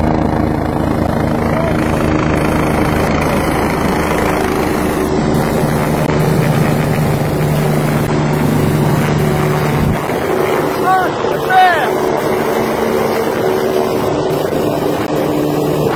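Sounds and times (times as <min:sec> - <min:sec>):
helicopter engine hum: 0:00.0 - 0:15.9
helicopter rotor noise: 0:00.0 - 0:15.9.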